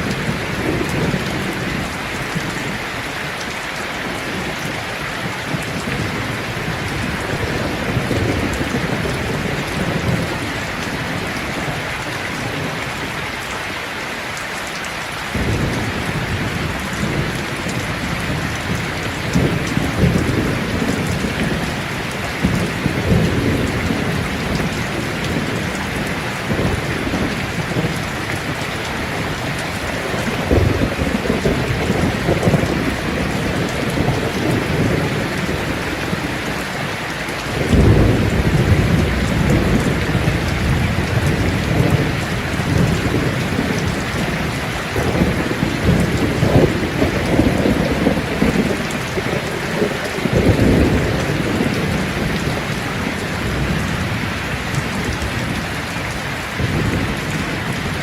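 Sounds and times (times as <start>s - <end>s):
thunder rumbling: 0.0s - 3.1s, 4.1s - 13.2s, 15.3s - 36.7s, 37.4s - 58.0s
heavy rain hissing: 0.0s - 58.0s.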